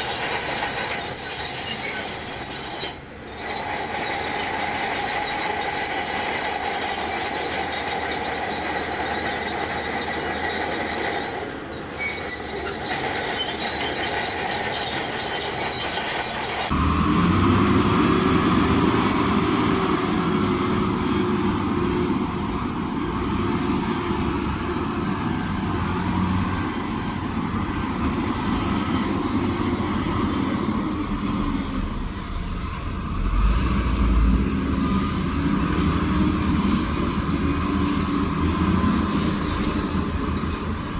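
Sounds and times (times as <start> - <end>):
diesel engine working under load: 0.0 - 40.9
high metallic squeal of crawler tracks: 0.0 - 40.9.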